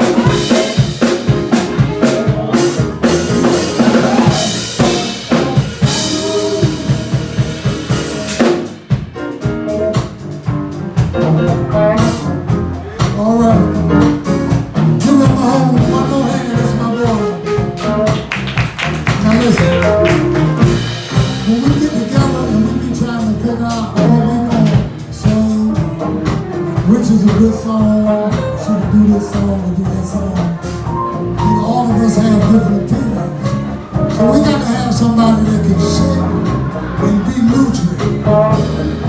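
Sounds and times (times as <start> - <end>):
person singing: 0.0 - 7.4, 11.2 - 14.3, 15.0 - 18.3, 18.9 - 39.0
live soul band playing: 0.0 - 39.0.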